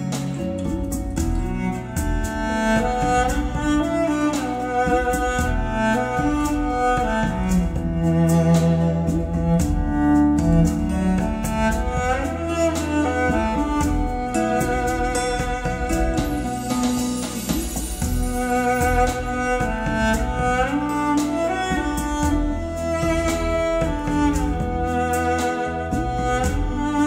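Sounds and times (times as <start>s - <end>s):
sliding melody notes: 0.0s - 27.0s
steady bass: 0.0s - 27.0s.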